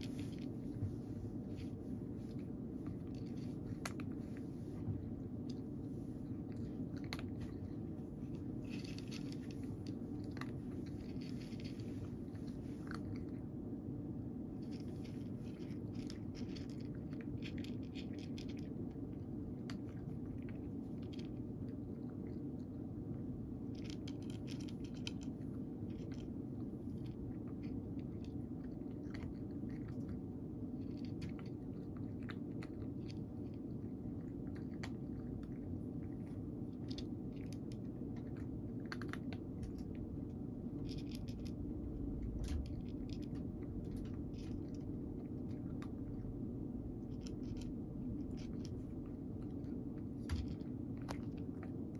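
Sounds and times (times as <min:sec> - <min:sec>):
cat crunching dry kibble: 0:00.0 - 0:51.9
low hum: 0:00.0 - 0:51.9.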